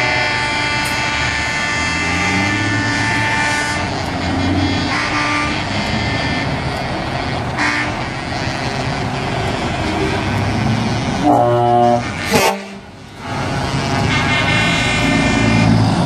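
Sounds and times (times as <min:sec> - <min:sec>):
heavy diesel trucks driving past: 0:00.0 - 0:16.0
truck air horn: 0:00.0 - 0:16.0.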